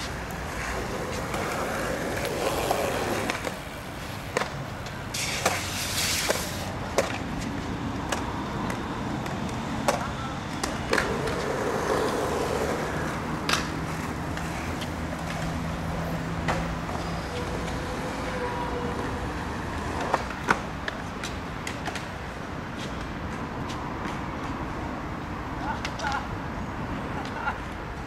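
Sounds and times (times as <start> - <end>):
skateboard clacks: 0.0 - 24.5, 25.6 - 26.4
background traffic hum: 0.0 - 28.0
skateboard rolling on concrete: 0.0 - 28.0.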